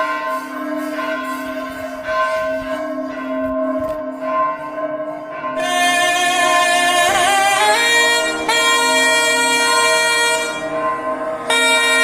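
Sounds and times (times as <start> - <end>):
temple bell ringing: 0.0 - 12.0.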